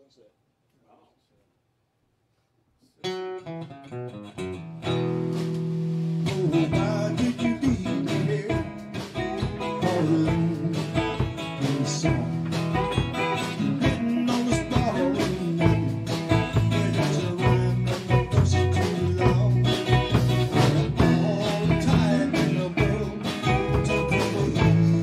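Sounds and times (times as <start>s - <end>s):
guitar picking single notes: 3.1s - 25.0s
live rock band playing: 3.9s - 25.0s.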